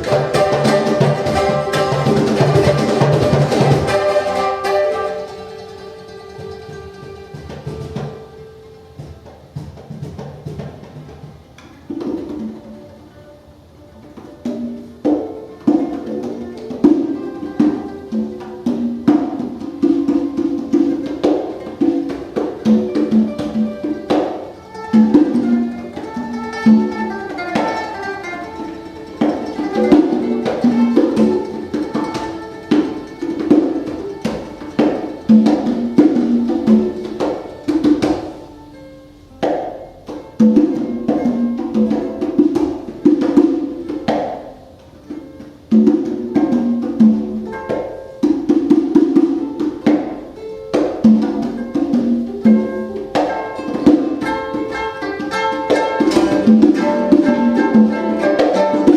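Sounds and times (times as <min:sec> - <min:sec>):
hand percussion strikes: 0:00.0 - 0:58.9
plucked strings: 0:00.0 - 0:58.9.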